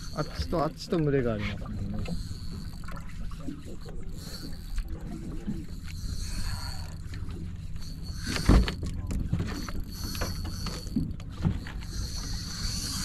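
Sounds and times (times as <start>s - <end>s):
boat engine running: 0.0s - 13.0s
thin high buzz: 0.0s - 13.0s.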